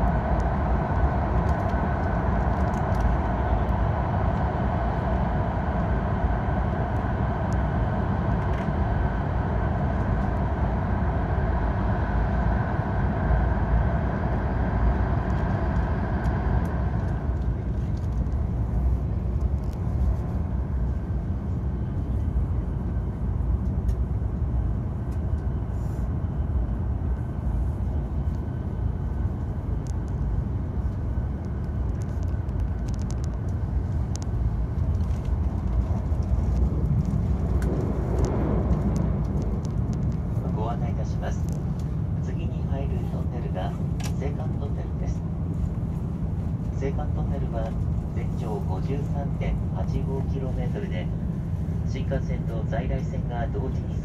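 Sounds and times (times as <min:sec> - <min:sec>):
train running noise from cabin: 0:00.0 - 0:54.0
tunnel noise: 0:00.0 - 0:54.0.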